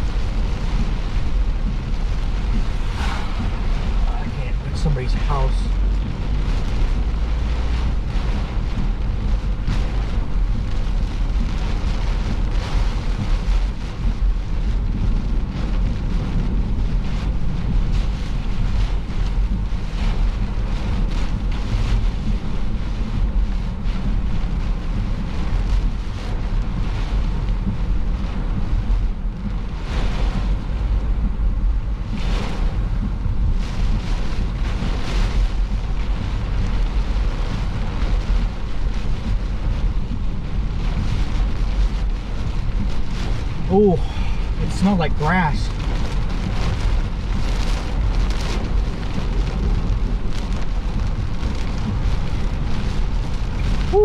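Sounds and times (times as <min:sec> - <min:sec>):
wind rushing: 0:00.0 - 0:09.2, 0:16.2 - 0:54.0
car road and engine rumble: 0:00.0 - 0:54.0.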